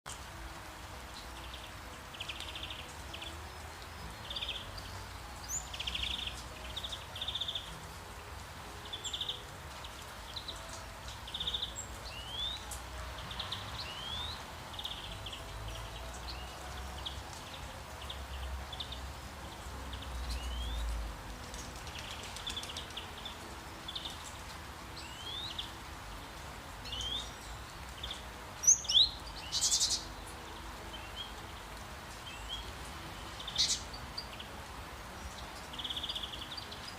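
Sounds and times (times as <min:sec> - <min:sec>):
songbirds chirping: 0:00.0 - 0:36.9
faint background hiss: 0:00.1 - 0:36.9.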